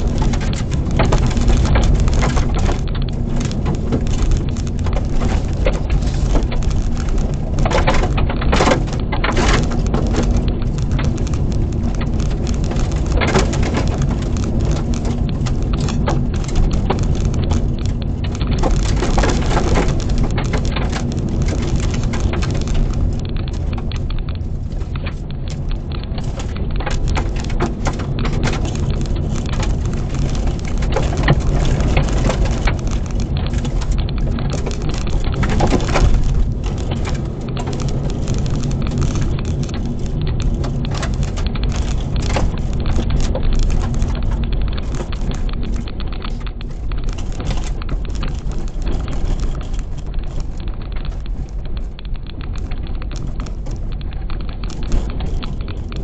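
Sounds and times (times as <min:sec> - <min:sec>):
tyres crunching on gravel: 0:00.0 - 0:51.7
car engine under load: 0:00.0 - 0:56.0
stones pattering against underbody: 0:00.0 - 0:56.0.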